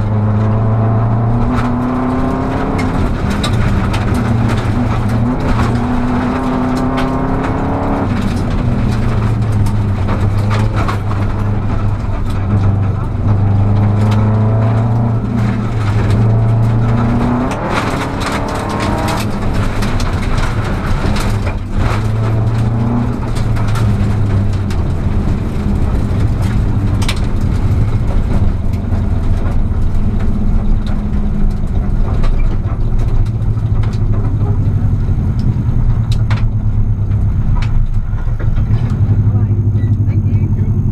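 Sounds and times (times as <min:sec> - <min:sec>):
gravel and car body knocks: 0:00.0 - 0:39.2
car engine revving: 0:00.0 - 0:40.9.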